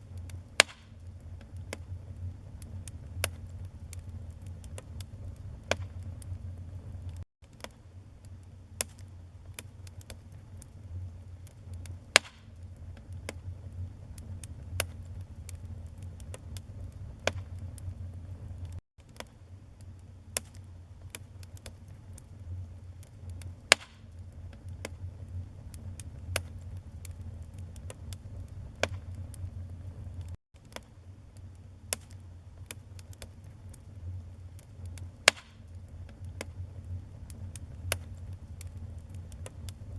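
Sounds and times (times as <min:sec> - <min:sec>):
fire rumbling: 0:00.0 - 0:07.2, 0:08.0 - 0:39.9
logs crackling and popping: 0:00.0 - 0:39.9.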